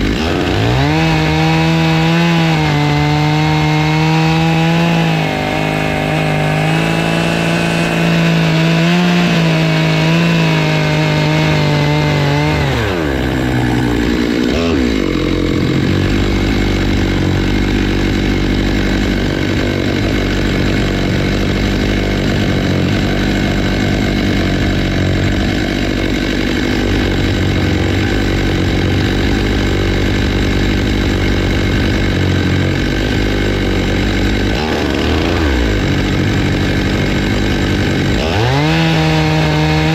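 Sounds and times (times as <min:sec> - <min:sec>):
chainsaw milling a log: 0:00.0 - 0:39.9.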